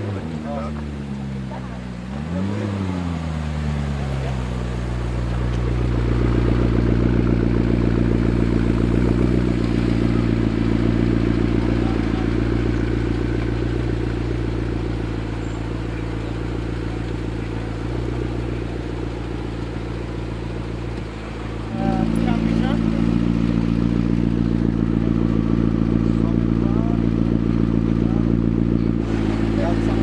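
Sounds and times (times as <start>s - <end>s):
car engine running at low revs: 0.0s - 30.0s.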